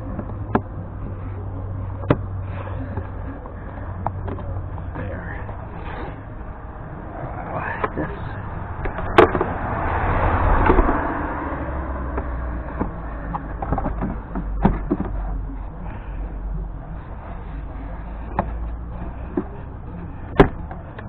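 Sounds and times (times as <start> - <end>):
rush of noise: 0.0 - 21.0
steady low rumble: 0.0 - 21.0.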